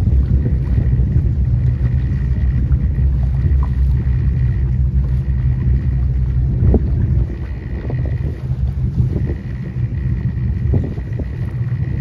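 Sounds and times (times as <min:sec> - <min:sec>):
faint steady whine: 0:00.0 - 0:12.0
motorboat engine rumble: 0:00.0 - 0:12.0
wind buffeting microphone: 0:00.0 - 0:12.0.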